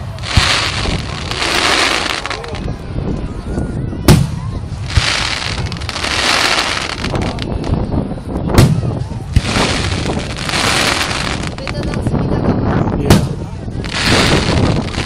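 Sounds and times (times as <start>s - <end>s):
smaller firework report: 0.0s - 15.0s
steady noisy haze: 0.0s - 15.0s
firework booms: 0.2s - 2.7s, 4.0s - 12.1s, 13.0s - 15.0s.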